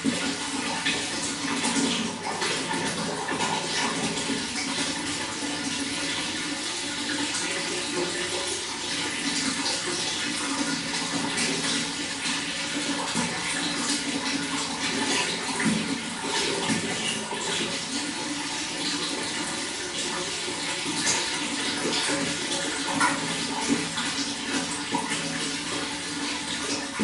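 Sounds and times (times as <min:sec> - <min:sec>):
running water splashing and gurgling: 0:00.0 - 0:27.0.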